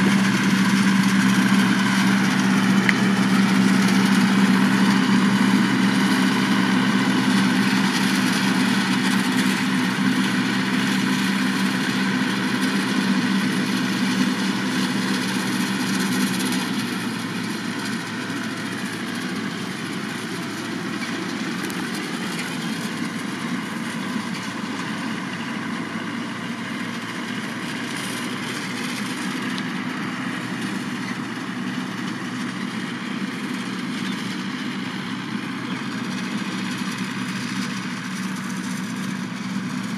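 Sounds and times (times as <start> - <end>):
straw chopper drone: 0.0 - 33.9
tractor engine under load: 0.0 - 39.9.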